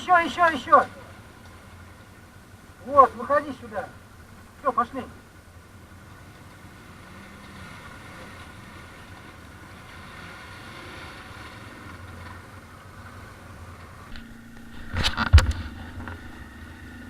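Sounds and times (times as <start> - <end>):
atv engines running: 0.0 - 17.0.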